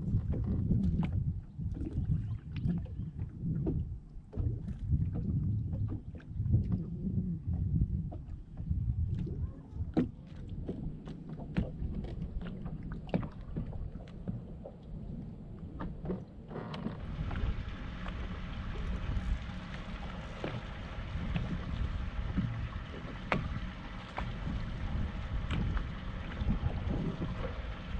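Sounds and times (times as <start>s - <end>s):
waves lapping against boat hull: 0.0s - 27.9s
wind on microphone: 0.0s - 27.9s.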